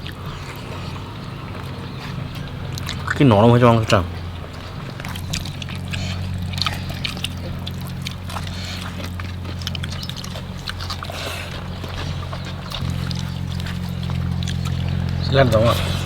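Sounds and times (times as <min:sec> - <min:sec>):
low mechanical hum: 0:00.0 - 0:16.0
people eating from leaf plates: 0:00.0 - 0:16.0.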